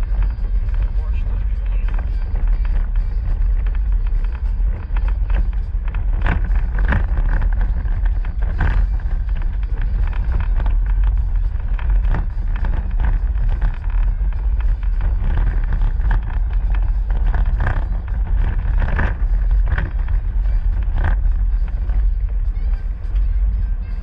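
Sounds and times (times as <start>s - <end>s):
knocks and rattles in vehicle cabin: 0.0s - 24.0s
vehicle engine and tyres rumbling: 0.0s - 24.0s.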